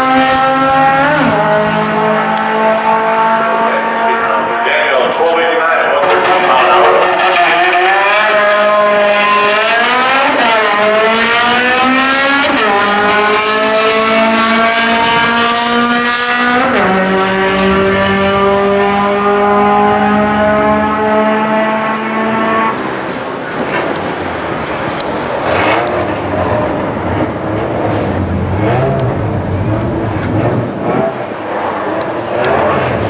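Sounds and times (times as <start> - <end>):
car engine at full throttle: 0.0 - 33.0.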